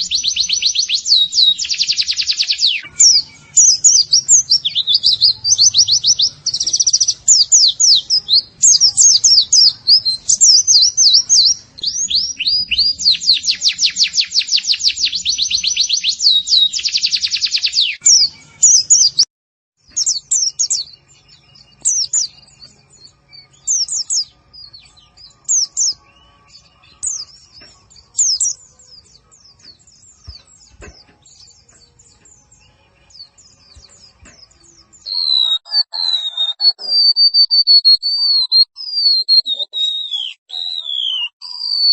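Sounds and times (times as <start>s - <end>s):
bird chirping and trilling: 0.0s - 41.9s.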